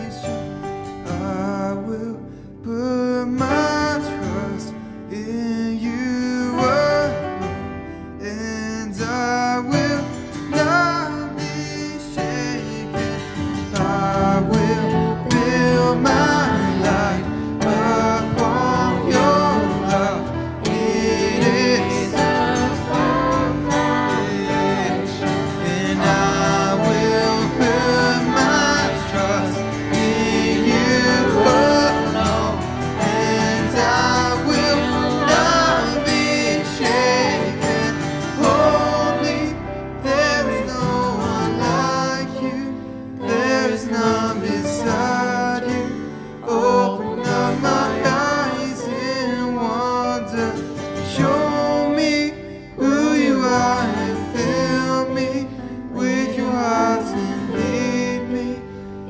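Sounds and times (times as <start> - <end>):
keyboard: 0.0 - 59.0
strummed acoustic guitar: 0.0 - 59.0
voices singing together: 9.6 - 58.8.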